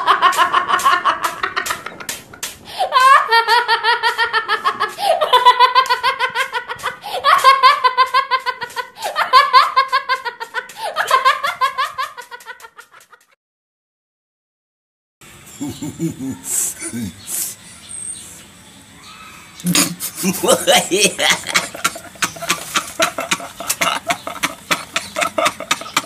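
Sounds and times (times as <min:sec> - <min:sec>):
high-pitched comedic laugh: 0:00.0 - 0:13.4, 0:15.6 - 0:17.1, 0:19.6 - 0:26.0.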